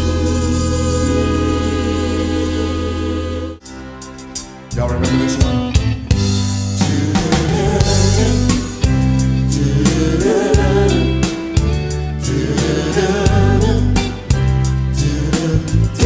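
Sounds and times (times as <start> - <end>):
bass: 0.0 - 16.0
drum kit: 0.0 - 16.0
guitar: 0.0 - 16.0.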